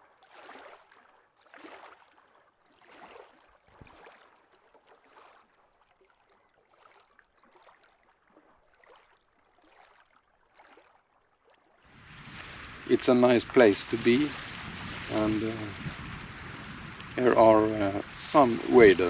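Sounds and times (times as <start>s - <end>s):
small waves lapping: 0.0s - 19.0s.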